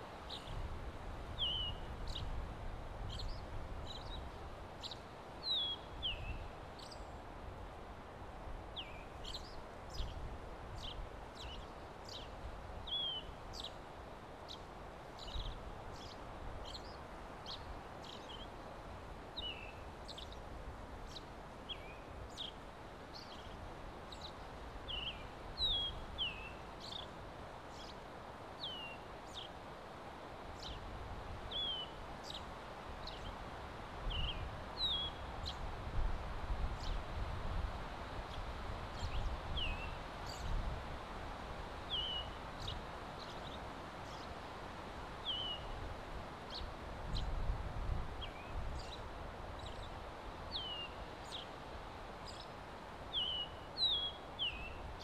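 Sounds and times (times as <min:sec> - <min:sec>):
wind rustling in trees: 0:00.0 - 0:55.0.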